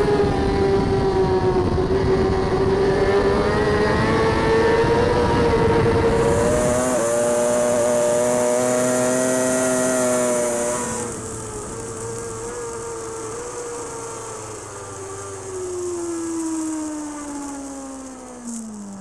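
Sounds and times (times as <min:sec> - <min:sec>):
superbike engine at high revs: 0:00.0 - 0:19.0.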